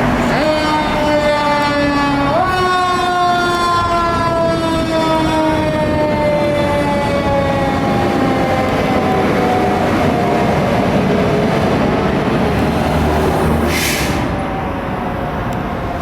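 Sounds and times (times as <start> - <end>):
engine and road rumble: 0.0 - 16.0
fire engine siren: 0.0 - 16.0.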